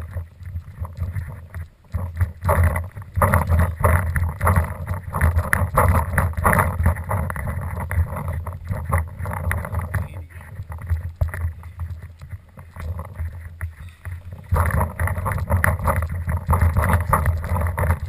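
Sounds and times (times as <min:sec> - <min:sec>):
microphone handling noise: 0:00.0 - 0:18.0
wind rumble: 0:00.0 - 0:18.0.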